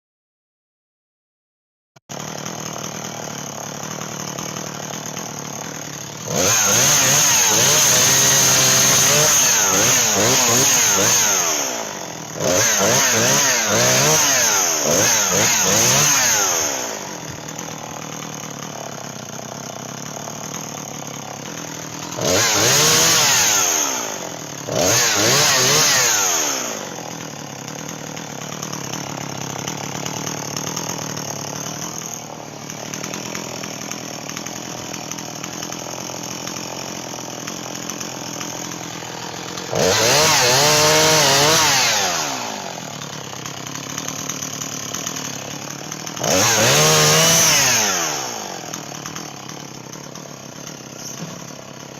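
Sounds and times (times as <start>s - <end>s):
chainsaw idling and revving: 2.0s - 51.9s.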